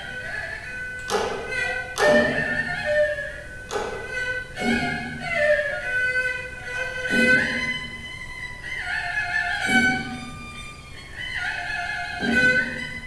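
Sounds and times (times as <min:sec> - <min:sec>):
two-string fiddle melody: 0:00.0 - 0:13.0.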